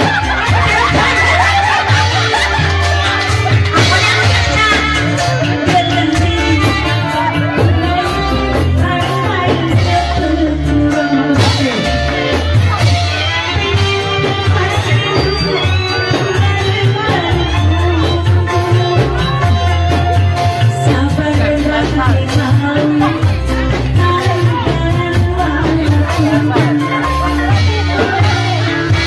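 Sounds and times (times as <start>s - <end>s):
amplified band music: 0.0s - 29.0s
drums: 0.0s - 29.0s
strong bass beat: 0.0s - 29.0s
woman singing into a microphone: 0.0s - 29.0s.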